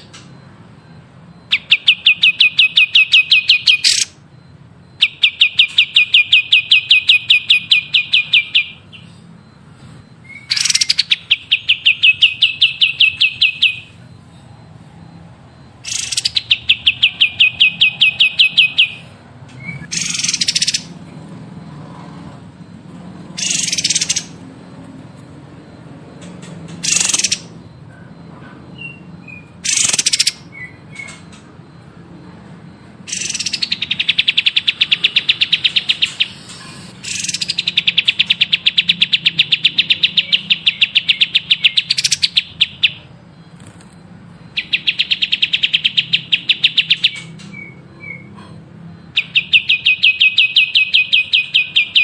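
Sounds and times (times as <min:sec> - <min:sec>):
songbird singing: 0:00.0 - 0:21.6, 0:22.6 - 0:43.4, 0:44.2 - 0:52.0.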